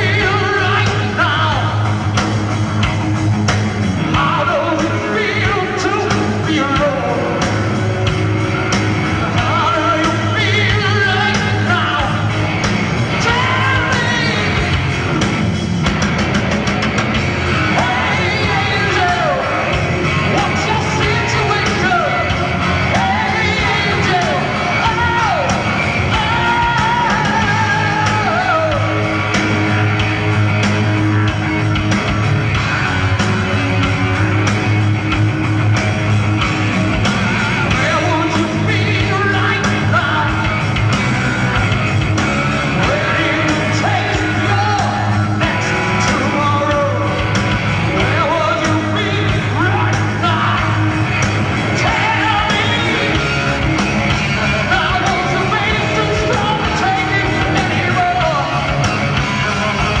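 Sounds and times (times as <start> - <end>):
heavy metal band playing live: 0.0 - 60.0
singer singing and yelling: 0.0 - 60.0.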